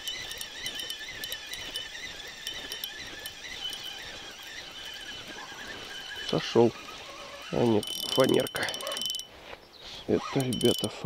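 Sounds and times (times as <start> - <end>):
fishing reel ticking: 0.0 - 9.4, 10.3 - 11.0
insects chirring: 0.0 - 9.4, 10.2 - 11.0.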